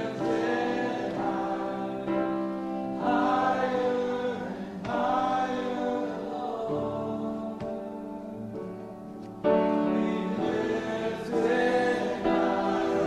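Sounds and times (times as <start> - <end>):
congregation singing a worship song: 0.0 - 13.0.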